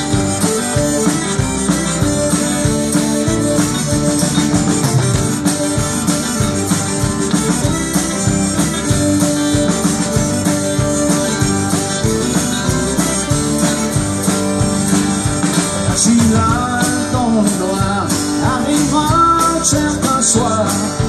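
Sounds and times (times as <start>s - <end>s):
accordion: 0.0s - 21.0s
country-rock band playing: 0.0s - 21.0s.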